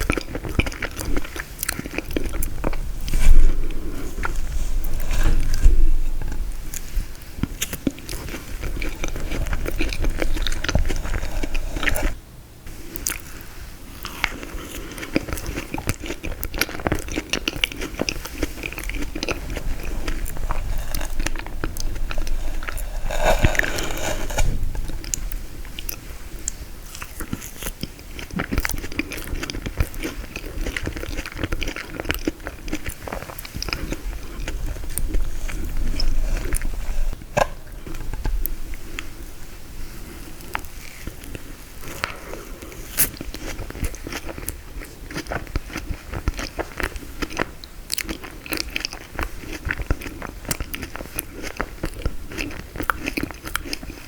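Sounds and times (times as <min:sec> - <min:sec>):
biting and chewing frozen dessert: 0:00.0 - 0:12.2, 0:12.8 - 0:54.0.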